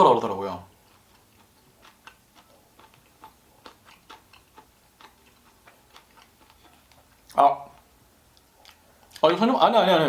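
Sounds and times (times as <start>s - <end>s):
person chewing with clicking mouth sounds: 0.2s - 9.4s.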